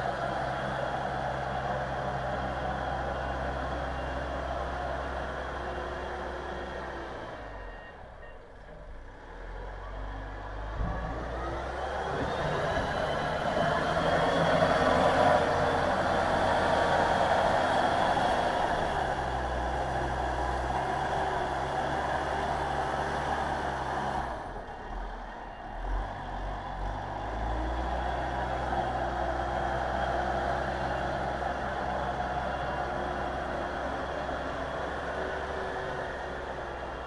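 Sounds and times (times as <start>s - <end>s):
wheel loader engine running: 0.0s - 37.0s.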